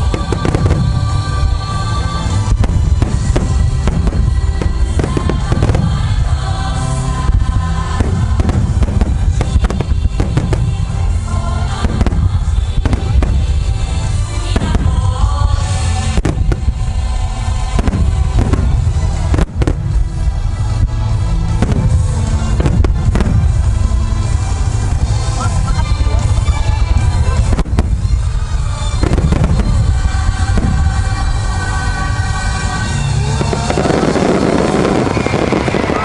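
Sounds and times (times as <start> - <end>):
continuous rumble: 0.0 - 36.0
music playing: 0.0 - 36.0.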